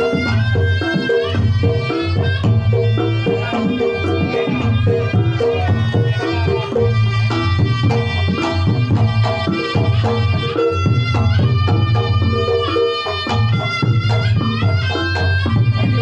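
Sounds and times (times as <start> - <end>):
drums beating quick rhythm: 0.0 - 16.0
gongs and percussion: 0.0 - 16.0
reedy wind instrument melody: 0.0 - 16.0.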